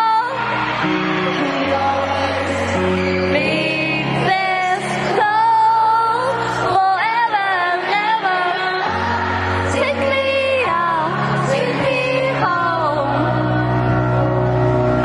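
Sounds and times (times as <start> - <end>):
woman singing: 0.0 - 0.5, 1.3 - 14.3
piano chords: 0.0 - 15.0.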